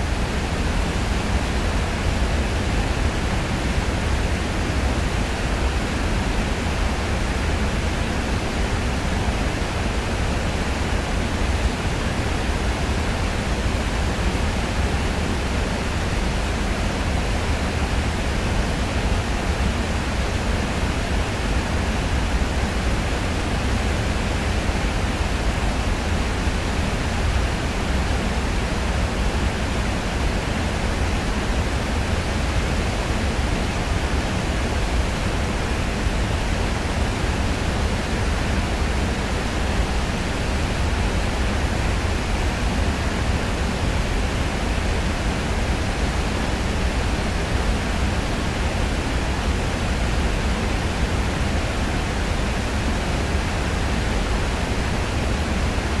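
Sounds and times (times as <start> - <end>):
large waterfall rushing: 0.0 - 56.0.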